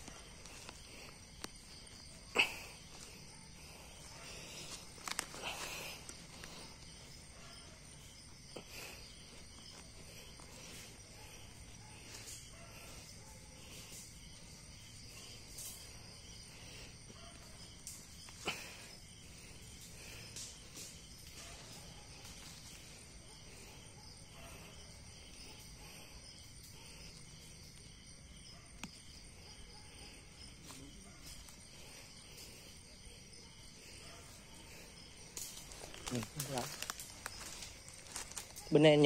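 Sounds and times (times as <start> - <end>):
chorus of night insects: 0.0 - 39.0.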